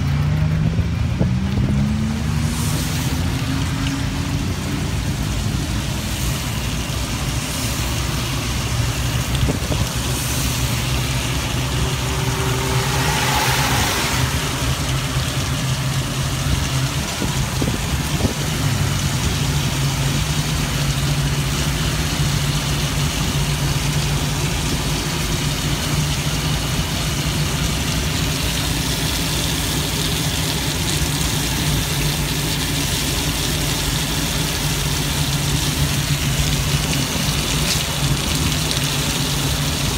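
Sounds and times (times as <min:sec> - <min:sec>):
low drone: 0:00.0 - 0:39.9
rain on a shell: 0:00.0 - 0:39.9
tyres hissing on wet road: 0:00.0 - 0:39.9.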